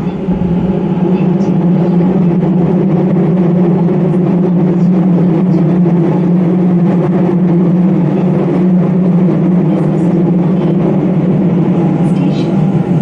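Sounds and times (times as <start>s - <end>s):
low motor hum: 0.0s - 13.0s
train wheels rumbling on rail: 0.0s - 13.0s.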